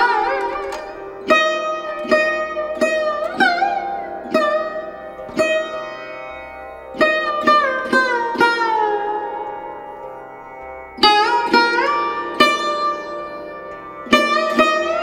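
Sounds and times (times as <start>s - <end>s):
plucked string instrument notes: 0.0s - 15.0s.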